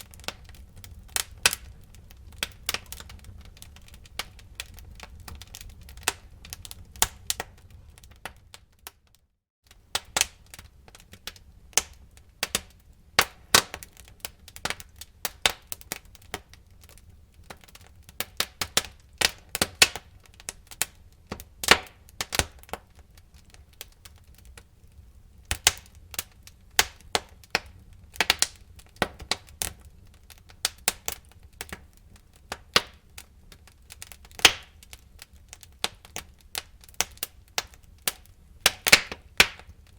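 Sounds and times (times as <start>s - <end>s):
low rumble of flames: 0.0s - 9.1s, 9.7s - 39.9s
wood fire crackling and popping: 0.0s - 39.9s.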